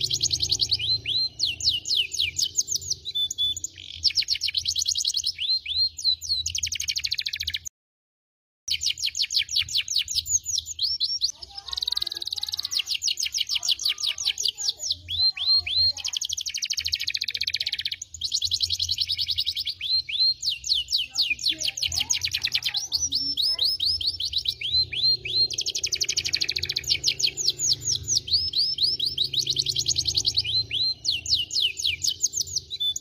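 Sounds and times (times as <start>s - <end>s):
canary singing: 0.0s - 7.7s, 8.7s - 33.0s.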